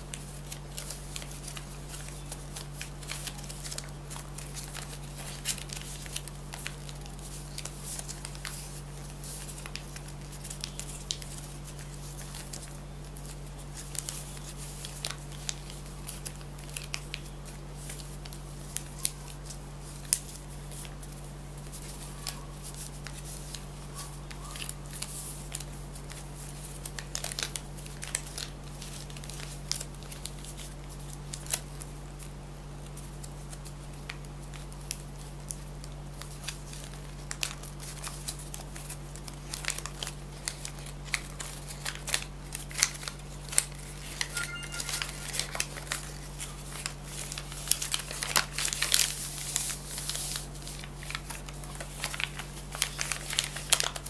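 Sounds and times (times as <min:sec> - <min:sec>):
paper crinkling and crackling: 0:00.0 - 0:54.0.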